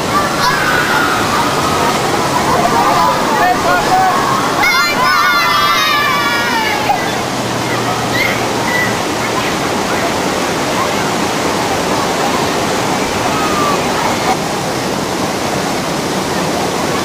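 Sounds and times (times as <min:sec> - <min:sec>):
faint voices: 0:00.0 - 0:17.0
water rushing and churning: 0:00.0 - 0:17.0.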